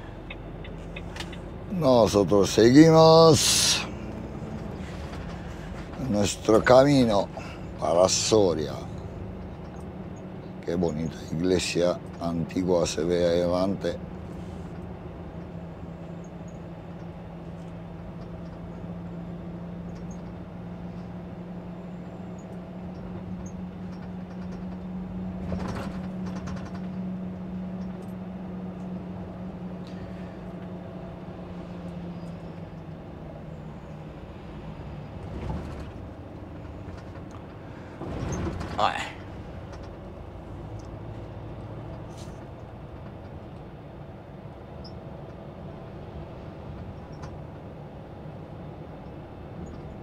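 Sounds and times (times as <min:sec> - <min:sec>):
lorry engine and road drone: 0:00.0 - 0:50.0.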